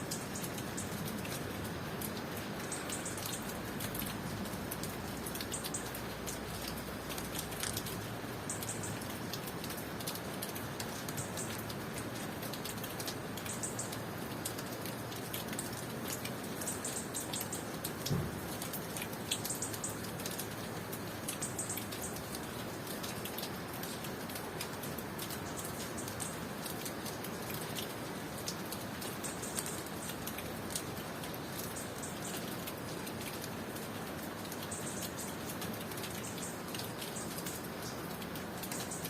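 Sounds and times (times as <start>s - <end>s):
rain drops ticking: 0.0s - 39.0s.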